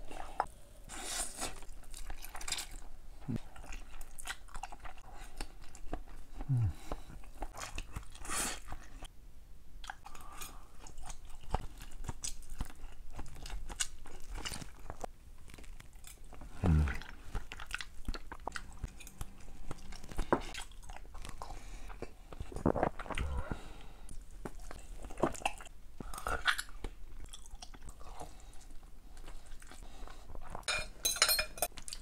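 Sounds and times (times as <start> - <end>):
wet chewing: 1.2 - 9.1, 9.8 - 30.7.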